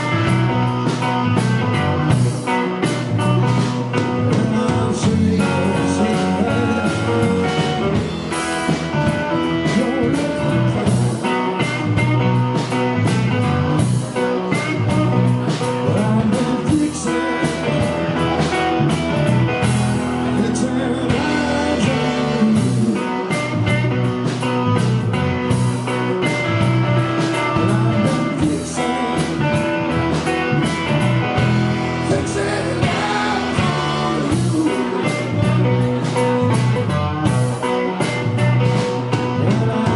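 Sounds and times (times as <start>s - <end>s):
person singing: 0.0s - 24.6s, 25.9s - 39.9s
drums: 0.0s - 39.9s
electric guitar: 0.0s - 39.9s.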